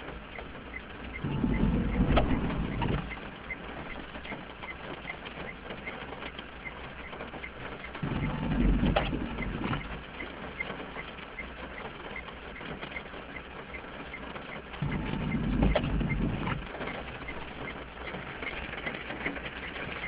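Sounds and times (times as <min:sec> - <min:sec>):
light rain pattering on car: 0:00.0 - 0:20.0
windscreen wiper sweeping: 0:00.0 - 0:20.0.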